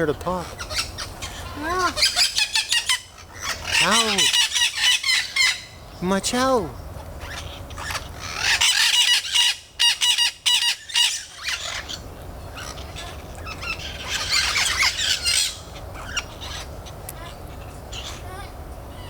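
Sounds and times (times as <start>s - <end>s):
parrots squawking: 0.0s - 5.8s, 7.0s - 19.0s.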